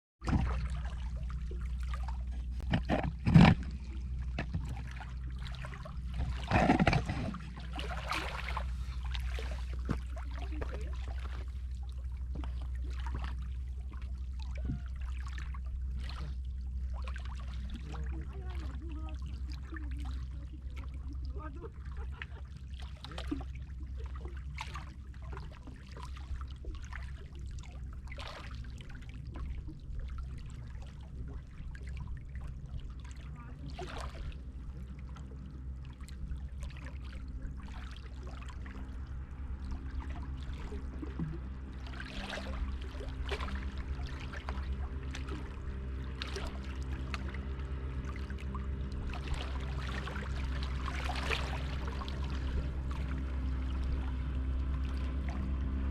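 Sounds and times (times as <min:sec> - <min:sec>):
sea water splashing: 0:00.2 - 0:55.9
steady low hum: 0:00.2 - 0:55.9.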